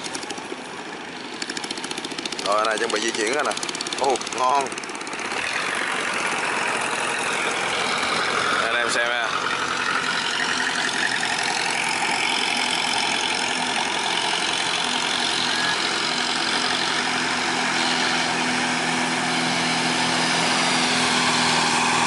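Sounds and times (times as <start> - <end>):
water rushing along hulls: 0.0 - 22.0
deep engine hum: 1.3 - 22.0.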